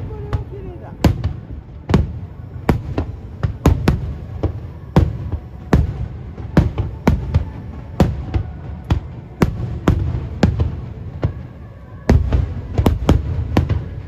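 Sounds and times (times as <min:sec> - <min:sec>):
fireworks bangs: 0:00.0 - 0:14.0
low rumble of booms: 0:00.0 - 0:14.0.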